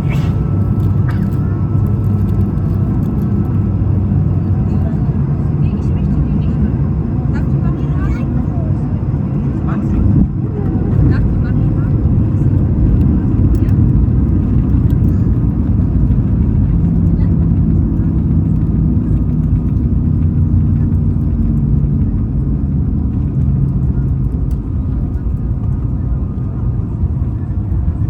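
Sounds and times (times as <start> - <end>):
airplane rolling on ground: 0.0 - 28.0.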